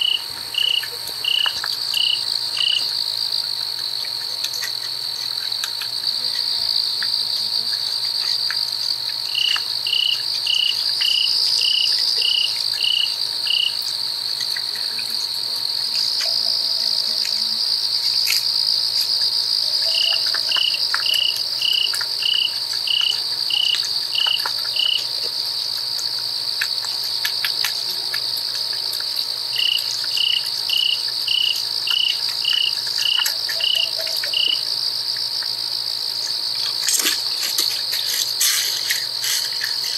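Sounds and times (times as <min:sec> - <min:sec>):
evenly spaced insect chirps: 0:00.0 - 0:27.7, 0:28.4 - 0:39.9
crickets trilling: 0:00.0 - 0:39.9.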